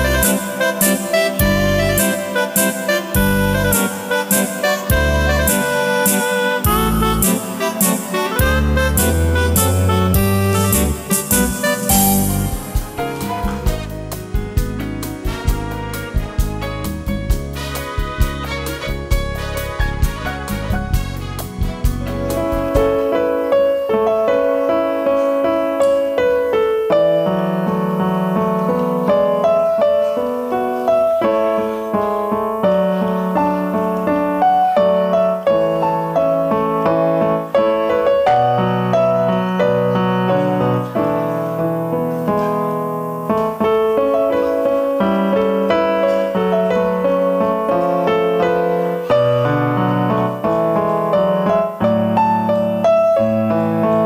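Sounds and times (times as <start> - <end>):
digital piano solo piece: 0.0 - 54.0.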